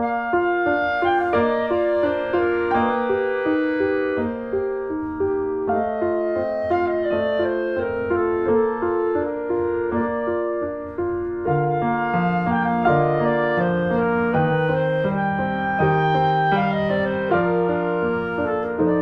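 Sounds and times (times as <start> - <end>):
piano-like background music: 0.0 - 19.0.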